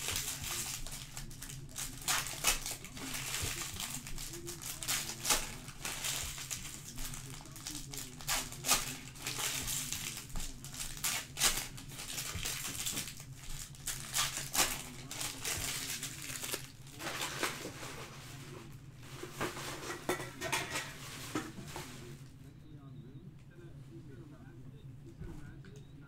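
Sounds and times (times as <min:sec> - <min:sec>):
foil wrappers crinkling: 0:00.0 - 0:22.3.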